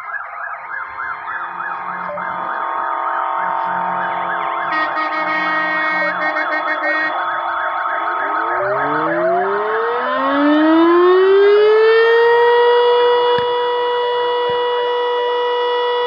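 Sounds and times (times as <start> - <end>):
fire engine sirens: 0.0 - 16.0.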